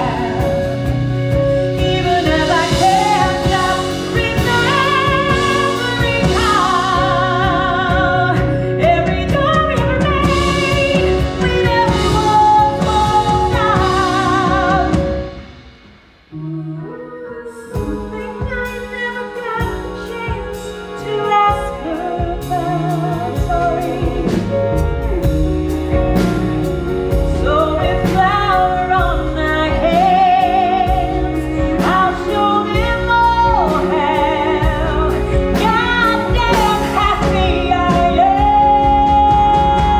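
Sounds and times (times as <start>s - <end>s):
woman singing with vibrato: 0.0s - 15.6s, 16.3s - 39.9s
band playing: 0.0s - 39.9s.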